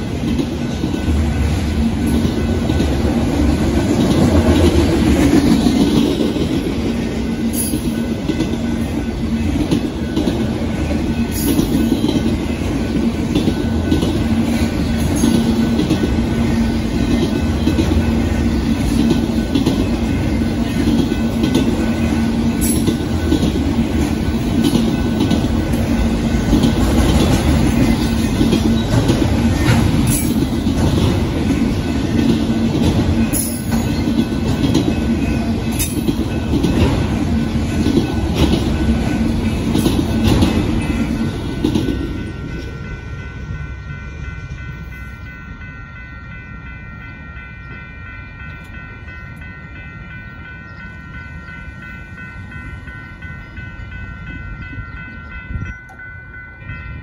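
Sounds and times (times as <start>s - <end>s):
crossing bell ringing: 0.0s - 57.0s
train wheels clattering on rails: 0.0s - 57.0s.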